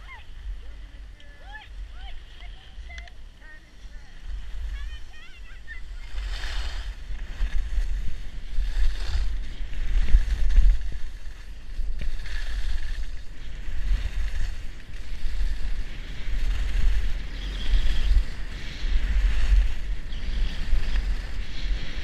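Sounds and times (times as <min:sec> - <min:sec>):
skis scraping on packed snow: 0:00.0 - 0:22.0
wind buffeting microphone: 0:00.0 - 0:22.0.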